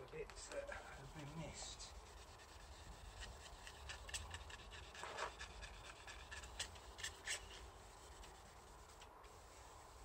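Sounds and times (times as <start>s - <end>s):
sanding block scratching a hull: 0.5s - 10.0s.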